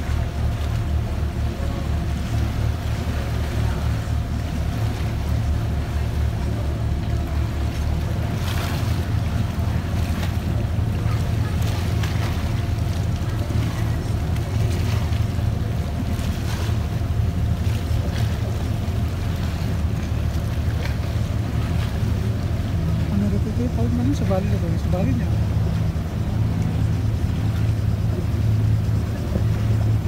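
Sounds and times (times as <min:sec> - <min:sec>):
boat engine humming: 0:00.0 - 0:30.0
water wash: 0:00.0 - 0:30.0.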